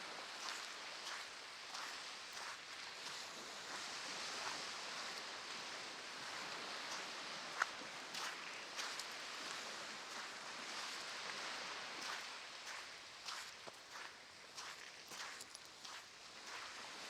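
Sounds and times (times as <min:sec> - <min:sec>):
footsteps crunching in sand: 0:00.2 - 0:17.0.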